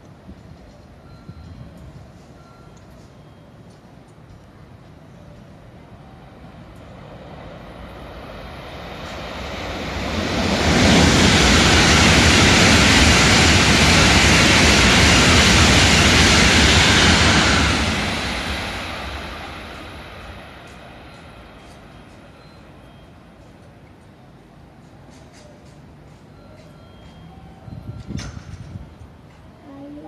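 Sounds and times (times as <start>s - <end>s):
train passing at speed: 0.0s - 30.0s.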